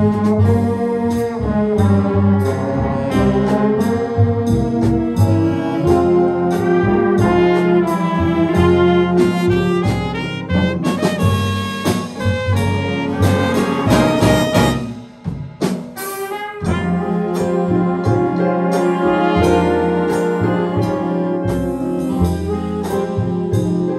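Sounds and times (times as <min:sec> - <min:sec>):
jazz big band playing: 0:00.0 - 0:23.9.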